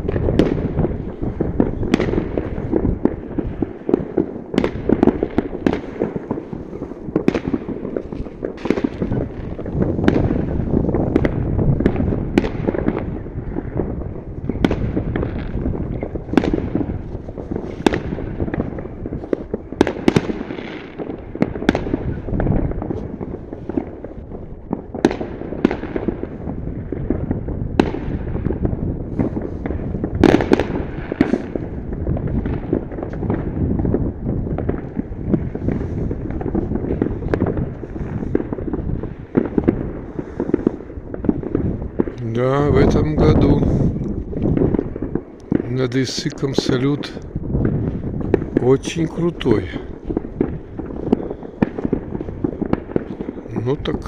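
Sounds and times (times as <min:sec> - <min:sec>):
rumble of fireworks bursting: 0:00.0 - 0:54.0
sharp firework bangs: 0:00.0 - 0:54.0.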